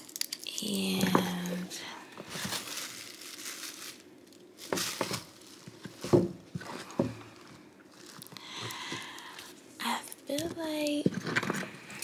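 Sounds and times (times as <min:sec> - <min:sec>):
crinkling and rustling of belongings: 0:00.0 - 0:12.0.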